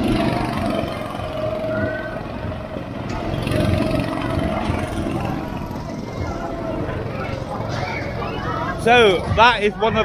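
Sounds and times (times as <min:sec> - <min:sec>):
go-kart engines droning: 0:00.0 - 0:10.0.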